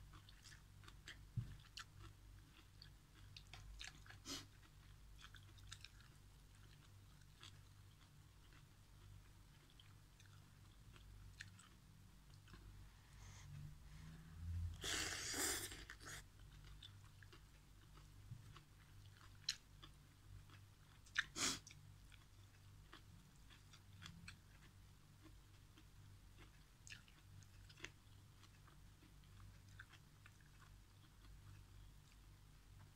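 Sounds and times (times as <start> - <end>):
soft chewing: 0.0 - 32.9.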